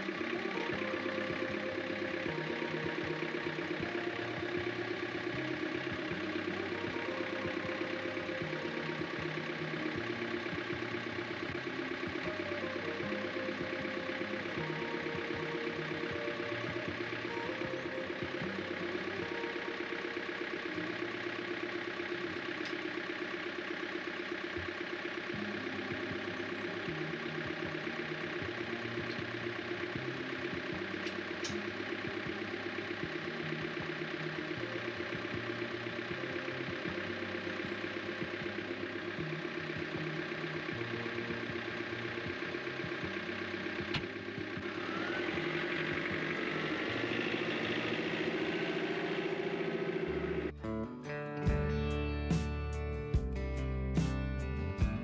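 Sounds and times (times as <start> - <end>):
diesel tractor engine idling: 0.0 - 55.0.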